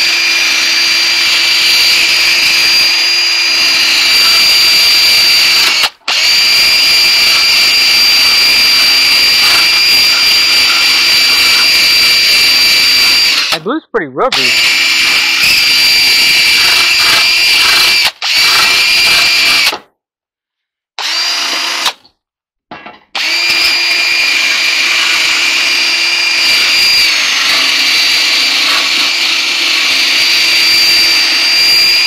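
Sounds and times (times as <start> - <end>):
drill wire wheel scrubbing metal: 0.0 - 13.6, 14.3 - 19.8, 21.0 - 22.0, 23.2 - 32.0.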